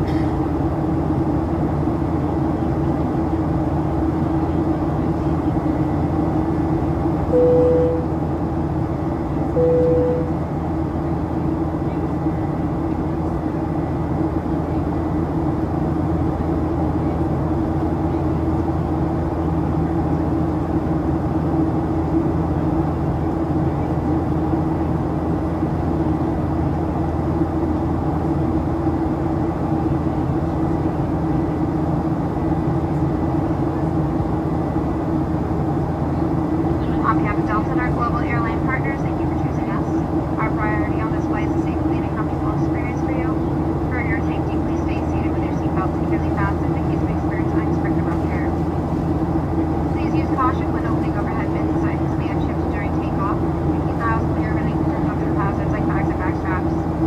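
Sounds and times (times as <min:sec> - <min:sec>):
airflow rush in cabin: 0:00.0 - 0:57.0
jet engine hum: 0:00.0 - 0:57.0.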